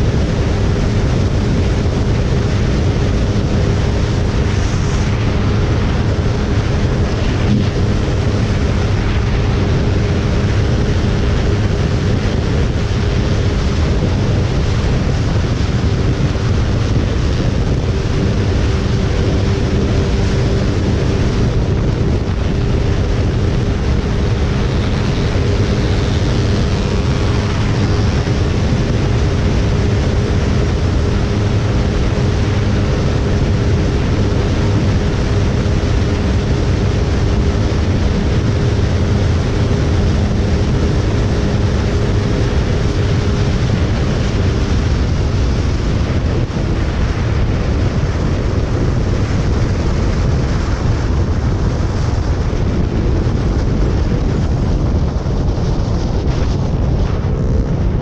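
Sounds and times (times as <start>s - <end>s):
motorcycle engine high revs: 0.0s - 46.7s
wind rush on microphone: 0.0s - 58.0s.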